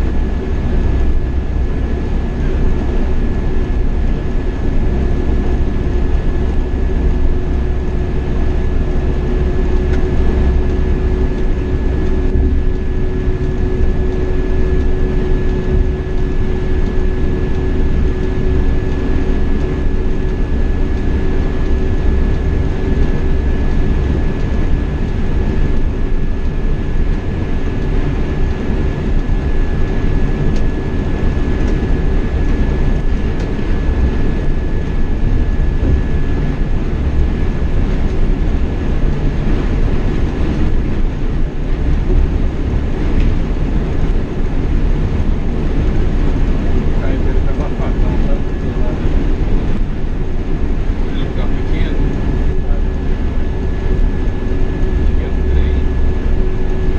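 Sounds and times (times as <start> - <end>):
coach engine and tyres rumbling: 0.0 - 56.9.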